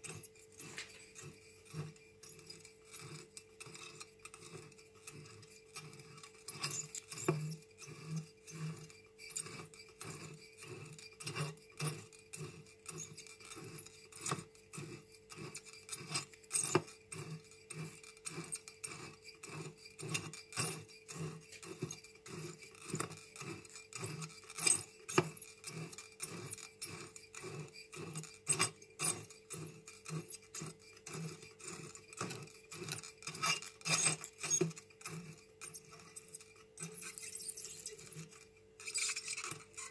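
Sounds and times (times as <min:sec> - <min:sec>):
glass bottle scraping in cutter: 0:00.0 - 0:39.9.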